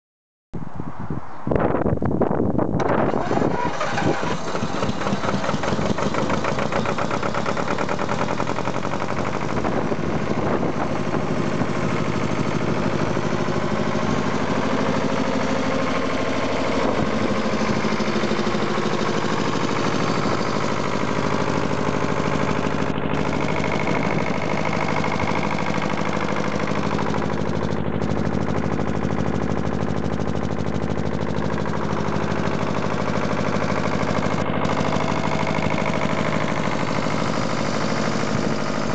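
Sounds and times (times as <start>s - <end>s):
diesel engine running steadily: 1.8s - 38.9s.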